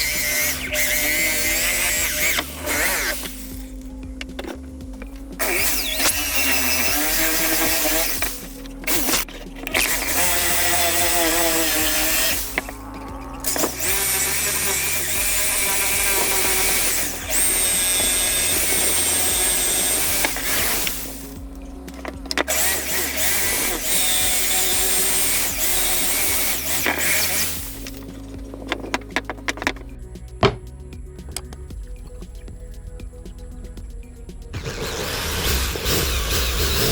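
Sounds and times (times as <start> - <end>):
background music: 0.0 - 36.9
power tool whining: 0.0 - 36.9.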